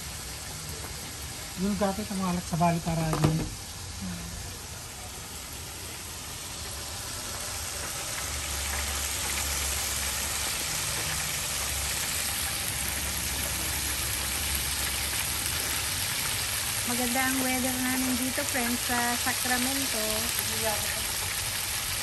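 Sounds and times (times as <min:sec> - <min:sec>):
hot oil sizzling: 0:00.0 - 0:22.0.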